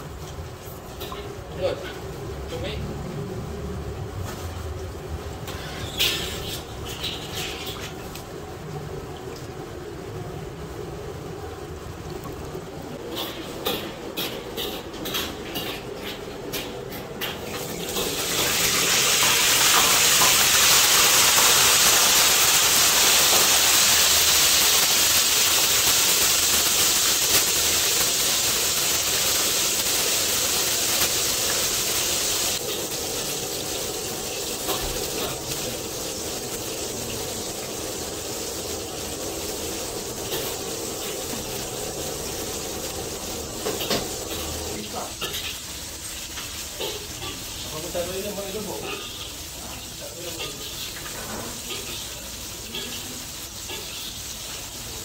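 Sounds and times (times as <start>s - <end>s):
fish sizzling in hot oil: 5.3s - 8.4s, 13.0s - 55.0s.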